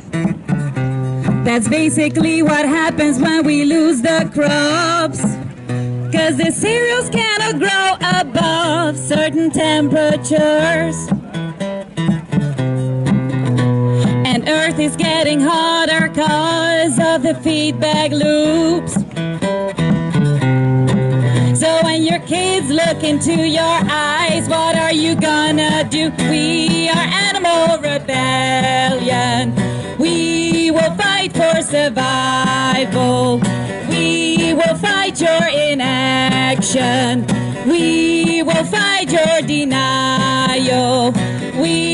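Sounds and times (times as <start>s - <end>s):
strummed acoustic guitar: 0.0s - 41.9s
woman singing with vibrato: 1.3s - 5.4s, 6.1s - 11.1s, 14.0s - 19.0s, 21.3s - 41.9s.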